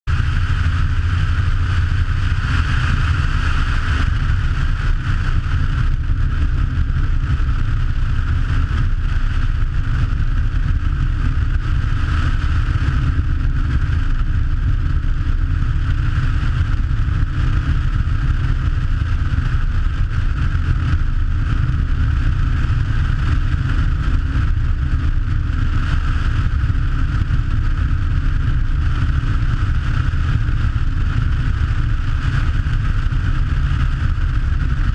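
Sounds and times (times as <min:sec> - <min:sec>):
seaplane engines droning: 0:00.1 - 0:34.9.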